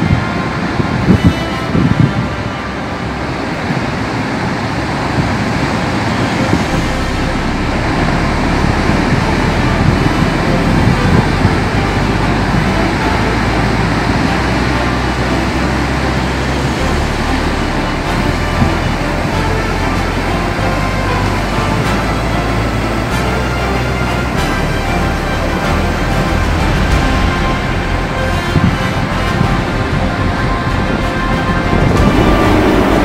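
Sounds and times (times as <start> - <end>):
sea surf roaring: 0.0 - 33.0
wind: 0.0 - 33.0.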